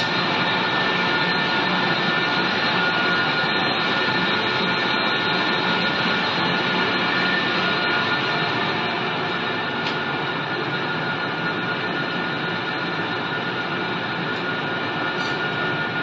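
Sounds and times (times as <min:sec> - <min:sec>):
high mechanical whine: 0:00.0 - 0:16.0
machinery running: 0:00.0 - 0:16.0.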